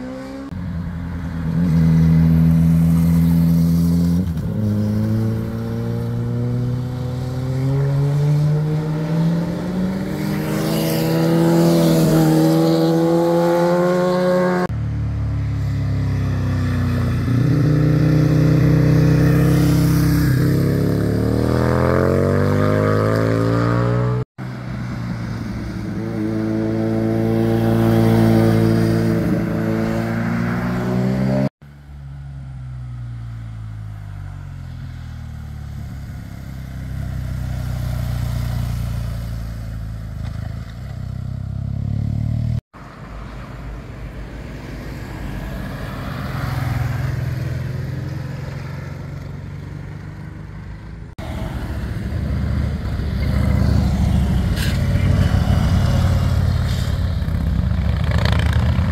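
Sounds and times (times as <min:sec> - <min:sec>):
motorcycles accelerating past: 0:01.5 - 0:14.7, 0:15.4 - 0:24.3, 0:25.1 - 0:31.5, 0:35.0 - 0:42.6, 0:45.6 - 0:50.1, 0:51.2 - 0:58.9.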